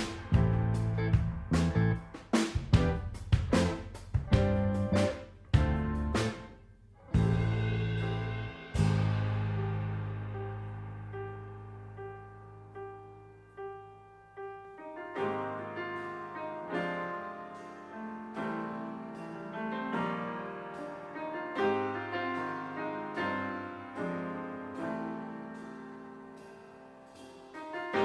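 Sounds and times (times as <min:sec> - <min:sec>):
soft piano music: 0:00.0 - 0:28.0.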